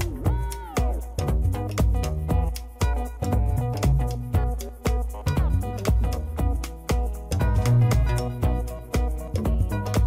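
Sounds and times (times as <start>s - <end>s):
strong bass line: 0.0s - 10.0s
upbeat instrumental music: 0.0s - 10.0s.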